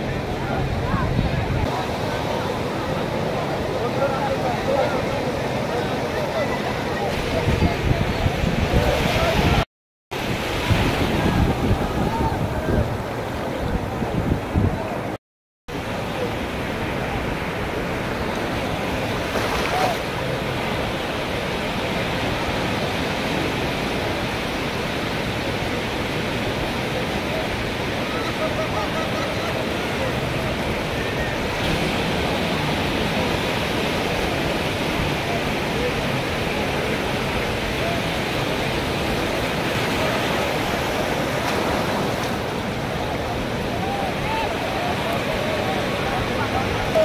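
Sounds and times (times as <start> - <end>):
sea surf washing over beach: 0.0 - 47.0.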